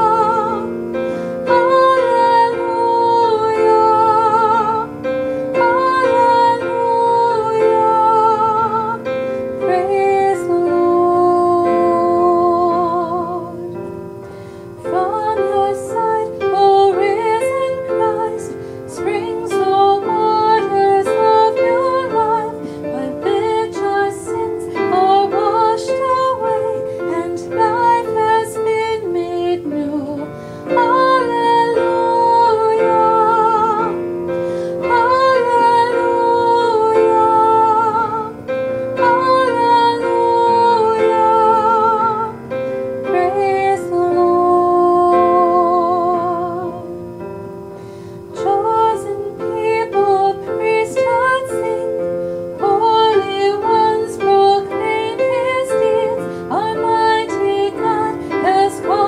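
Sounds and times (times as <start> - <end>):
woman singing a hymn: 0.0 - 47.0, 48.0 - 59.0.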